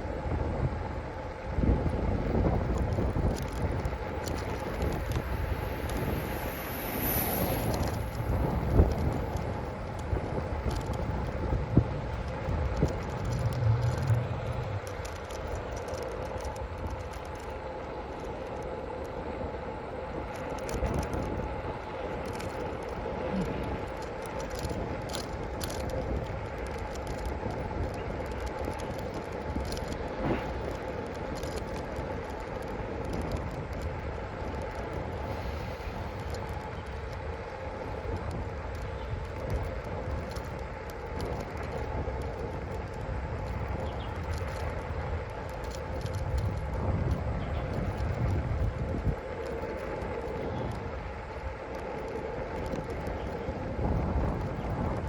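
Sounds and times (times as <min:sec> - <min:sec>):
vehicle running hum: 0:00.0 - 0:55.0
wind buffeting: 0:00.0 - 0:55.0.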